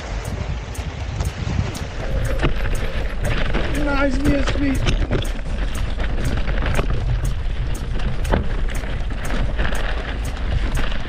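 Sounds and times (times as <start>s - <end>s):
bike rattling over bumps: 0.0s - 11.0s
wind rumble on microphone: 0.0s - 11.0s.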